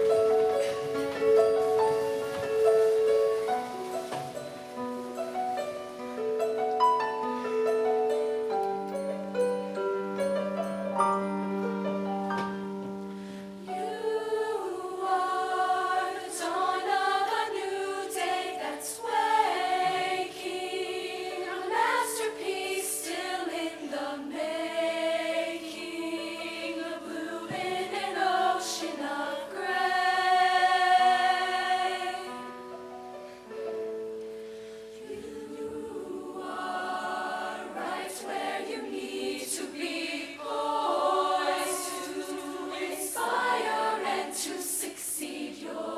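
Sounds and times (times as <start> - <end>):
choir singing in parts: 0.0 - 10.4, 11.2 - 45.9.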